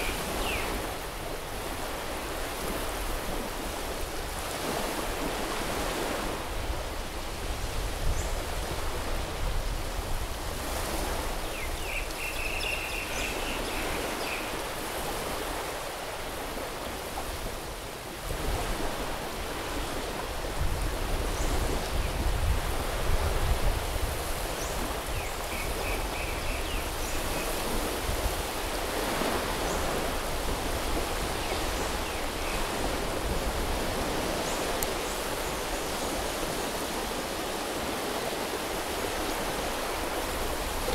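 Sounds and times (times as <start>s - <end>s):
sea waves washing on beach: 0.0s - 40.9s.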